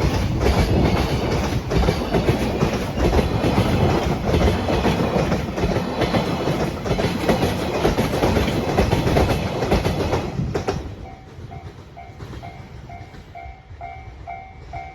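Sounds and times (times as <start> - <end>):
train cars clattering over rail joints: 0.0 - 13.4.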